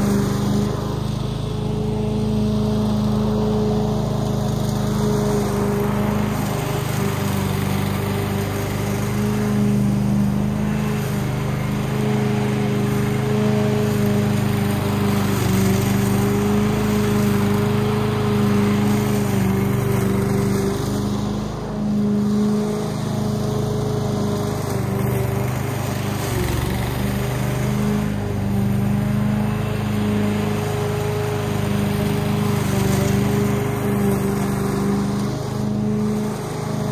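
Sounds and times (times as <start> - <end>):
lawn mower cutting grass: 0.0 - 36.9.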